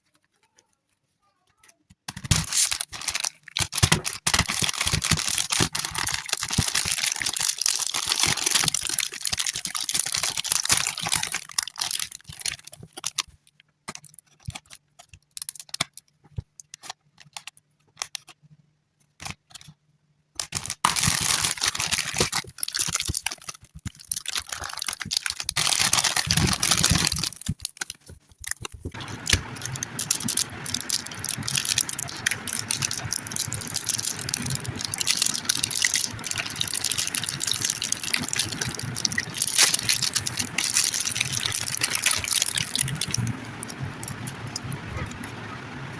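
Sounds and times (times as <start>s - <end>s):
plastic packaging crinkling: 2.1s - 16.0s, 20.4s - 45.9s.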